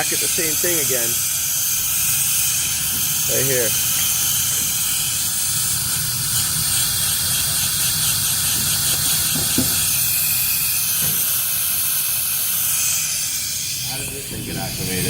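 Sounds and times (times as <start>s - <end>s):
compressed air hissing: 0.0s - 15.0s.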